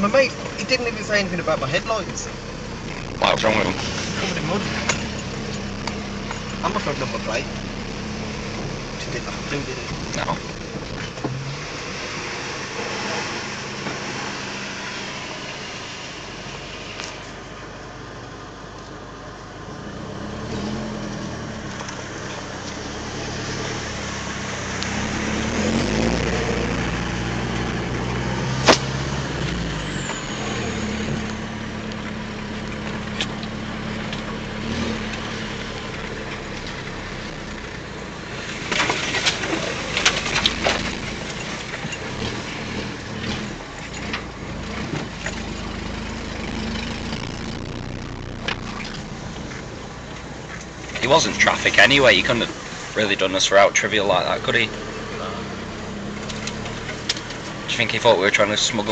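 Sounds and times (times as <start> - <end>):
four by four engine revving: 0.0 - 17.3, 19.6 - 58.9.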